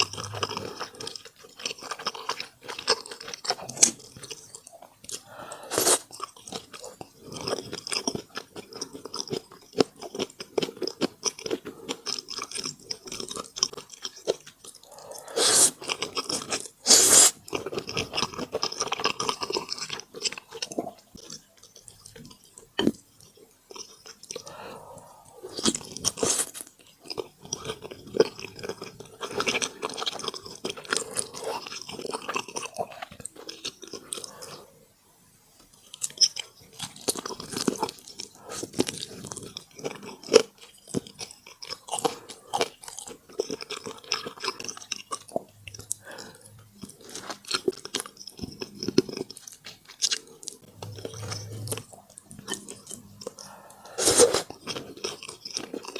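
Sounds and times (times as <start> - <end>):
chewing crisp food: 0.0 - 34.7, 35.6 - 55.9.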